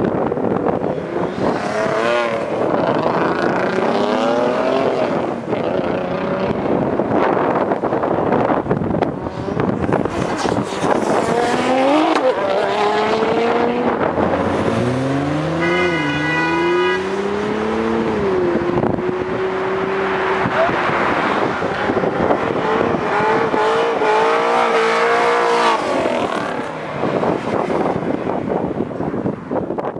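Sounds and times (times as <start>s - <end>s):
car engines revving: 0.0s - 29.9s
wind buffeting microphone: 0.0s - 29.9s.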